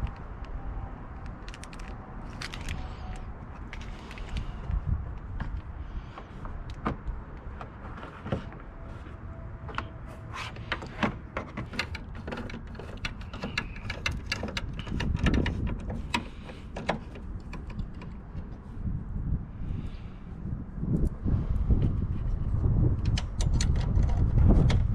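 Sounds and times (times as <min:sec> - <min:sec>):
steady low rumble: 0:00.0 - 0:10.3, 0:14.6 - 0:24.9.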